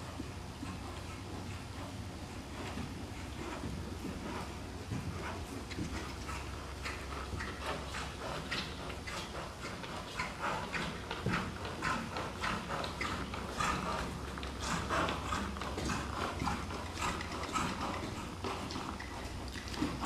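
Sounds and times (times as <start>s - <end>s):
horse hoofbeats on sand: 0.0s - 20.0s.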